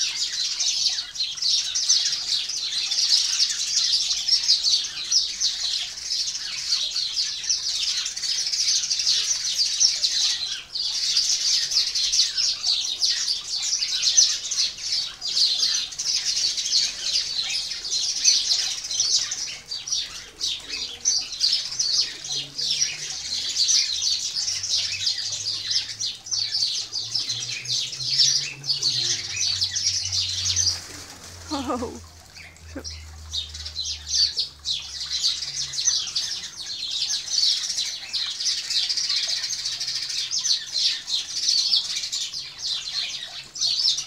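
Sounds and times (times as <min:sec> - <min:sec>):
sparrows chirping: 0:00.0 - 0:44.0.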